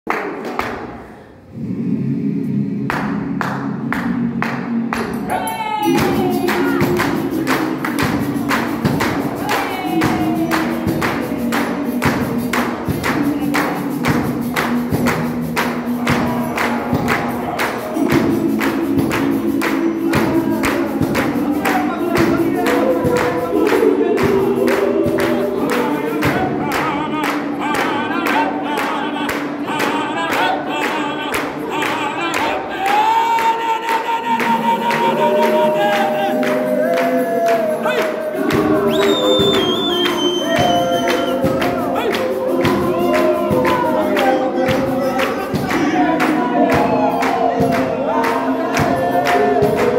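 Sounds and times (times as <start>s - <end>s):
hands clapping in a steady beat: 0.1s - 1.2s, 2.8s - 49.9s
choir singing in harmony: 0.6s - 49.9s.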